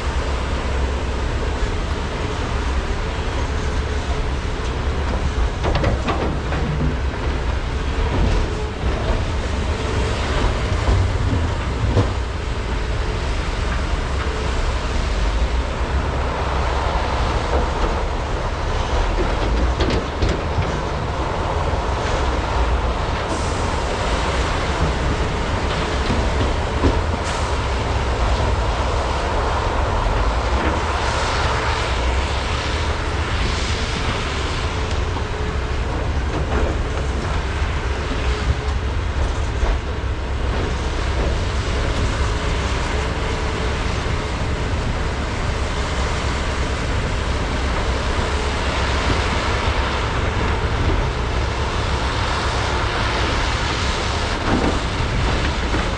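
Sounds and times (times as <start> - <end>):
diesel excavators running: 0.0 - 55.9.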